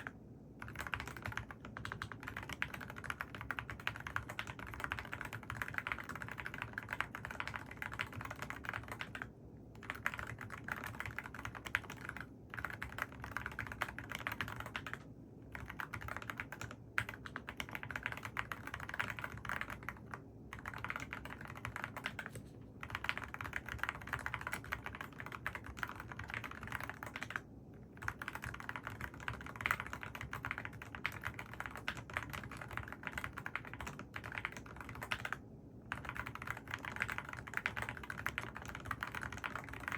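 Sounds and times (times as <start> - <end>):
mechanical keyboard typing: 0.0 - 27.4, 28.0 - 39.9.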